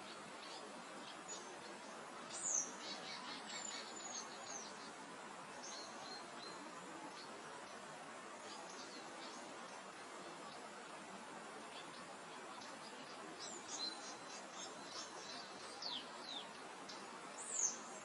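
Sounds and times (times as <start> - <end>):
birds singing: 0.0 - 10.7, 11.6 - 18.0.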